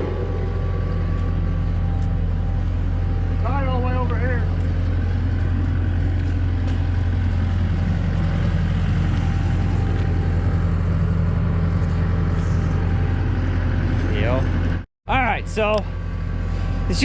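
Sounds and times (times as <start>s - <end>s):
machine engine humming: 0.0s - 17.0s.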